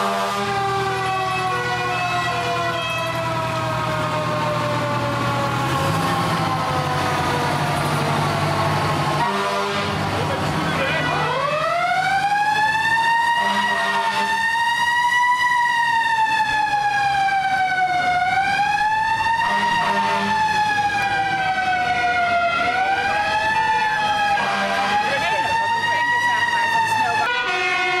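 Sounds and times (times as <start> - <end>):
fire truck siren wailing: 0.0 - 28.0.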